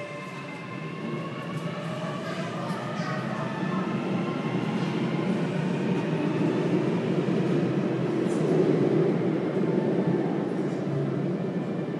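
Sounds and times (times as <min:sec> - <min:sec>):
subway train rumbling past: 0:00.0 - 0:11.9.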